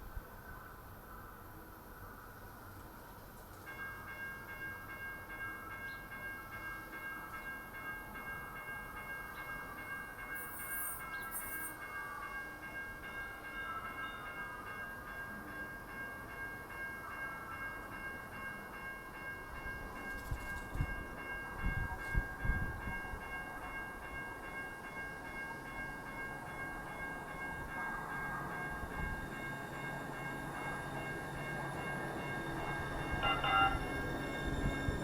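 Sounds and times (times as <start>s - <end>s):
light rail train electric whine: 0.0s - 35.0s.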